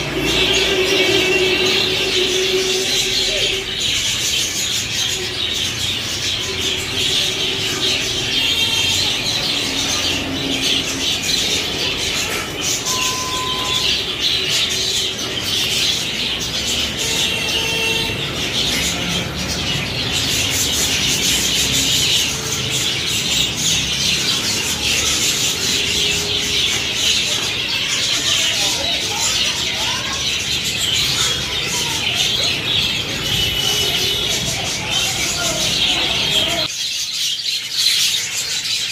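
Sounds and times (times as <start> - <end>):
budgerigar flock chattering: 0.0 - 38.9.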